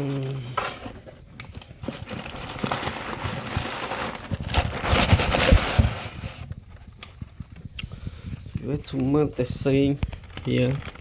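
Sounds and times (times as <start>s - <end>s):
handling noise crackling and rustling: 0.0s - 11.0s.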